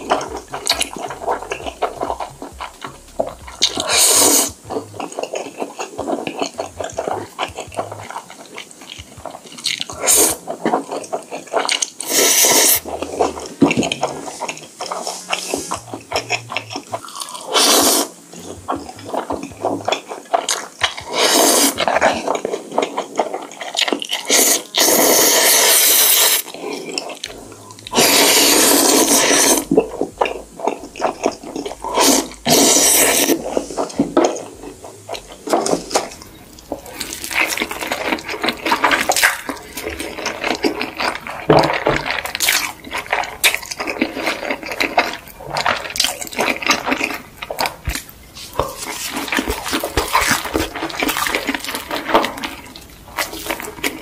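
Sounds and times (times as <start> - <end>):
person slurping noodles: 0.0 - 54.0
wet chewing and smacking: 0.0 - 54.0.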